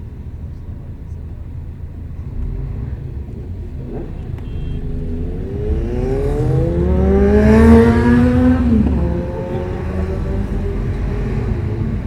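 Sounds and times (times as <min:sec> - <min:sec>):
bus engine pulling away: 0:00.0 - 0:12.0.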